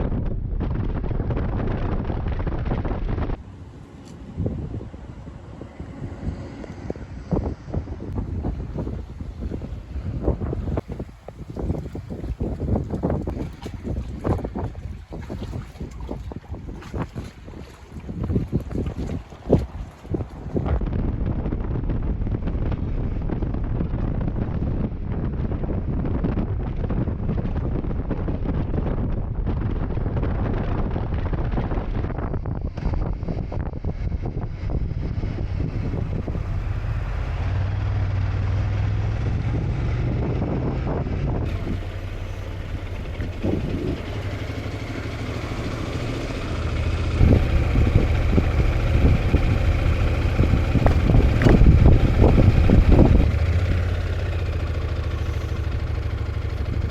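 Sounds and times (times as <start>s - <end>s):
motorcycle engine drone: 0.0s - 56.9s
wind rushing over microphone: 0.0s - 56.9s
road noise: 1.0s - 25.9s, 31.1s - 56.9s.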